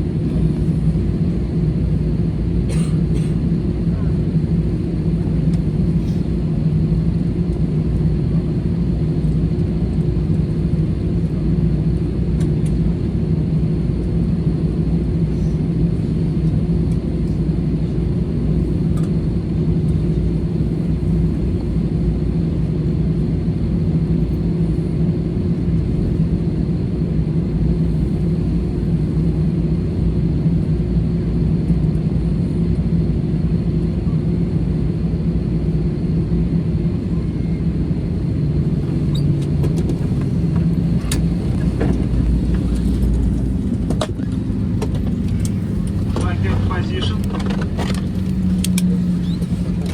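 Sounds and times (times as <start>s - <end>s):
jet engine cabin rumble: 0.0s - 49.9s.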